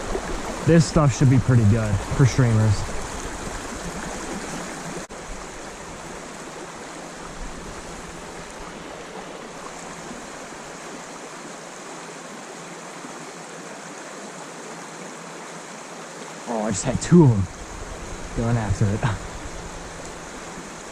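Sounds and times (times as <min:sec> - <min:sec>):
creek water flowing: 0:00.0 - 0:20.9.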